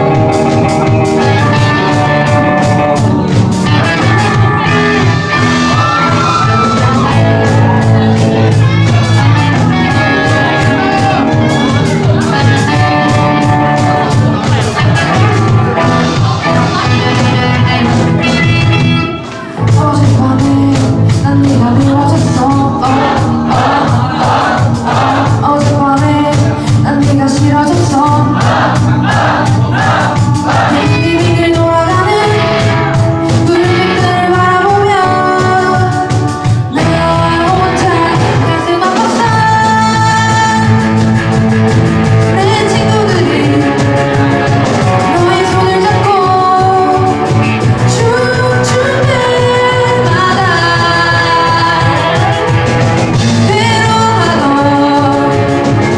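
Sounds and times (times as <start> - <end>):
woman singing lead: 0.0 - 41.1, 42.2 - 55.9
live rock band playing: 0.0 - 55.9.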